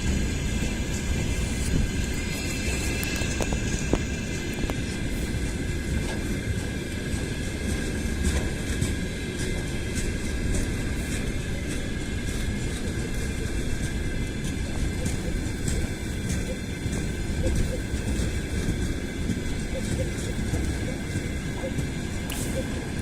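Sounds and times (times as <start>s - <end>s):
freight train rumbling on track: 0.0s - 23.0s.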